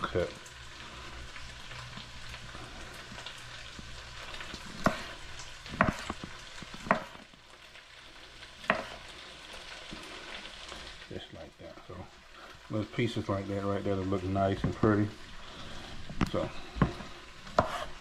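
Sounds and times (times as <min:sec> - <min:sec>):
vegetables sizzling in a pot: 0:00.0 - 0:18.0.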